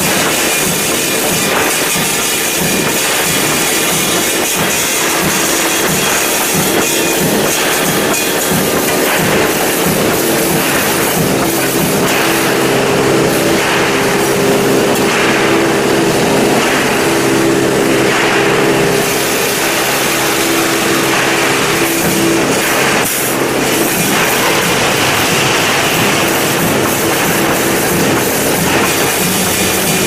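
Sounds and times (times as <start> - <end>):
welding machine humming: 0.0 - 30.0.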